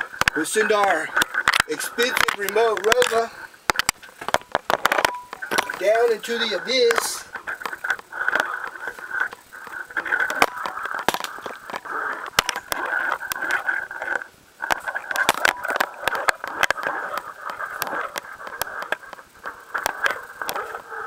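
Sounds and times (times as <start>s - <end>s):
camera scraping against rock: 0.0s - 21.0s.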